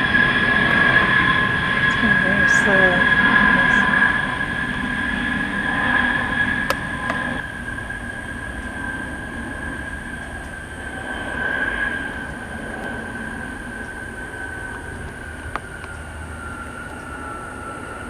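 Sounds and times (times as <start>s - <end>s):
low aircraft rumble: 0.0s - 18.0s
military aircraft engine whine: 0.0s - 18.0s.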